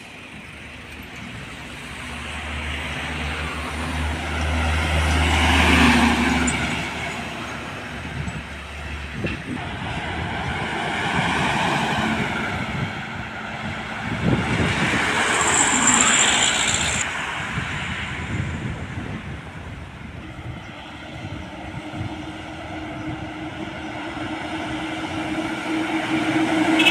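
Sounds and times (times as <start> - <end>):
heavy vehicles driving past: 0.0 - 26.9.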